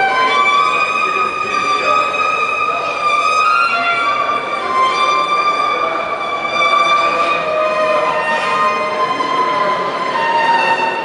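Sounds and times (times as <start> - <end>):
solo violin slow melody: 0.0 - 11.0.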